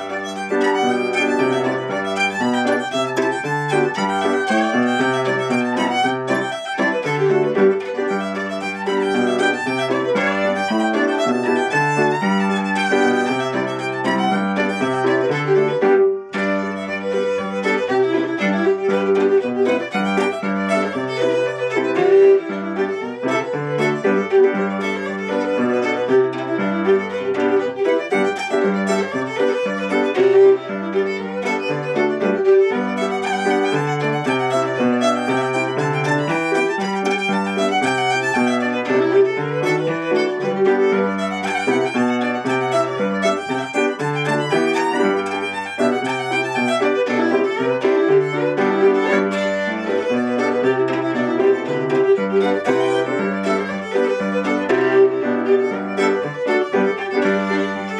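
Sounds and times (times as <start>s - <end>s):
fiddle playing a reel: 0.0s - 57.9s.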